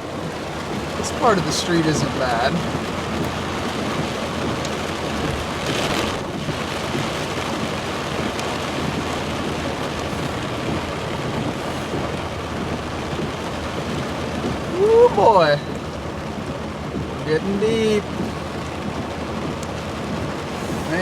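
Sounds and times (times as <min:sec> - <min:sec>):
heavy rain on truck: 0:00.0 - 0:21.0
rush of water: 0:00.0 - 0:21.0.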